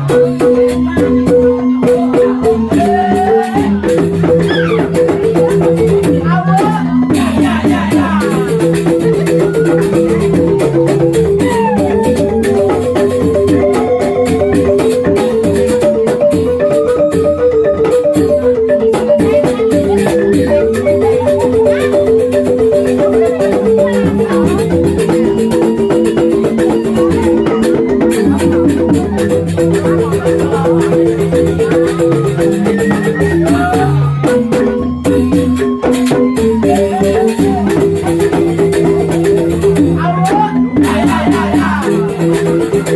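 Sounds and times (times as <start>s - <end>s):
bamboo xylophones playing: 0.0s - 42.9s
rattling percussion beat: 0.0s - 42.9s.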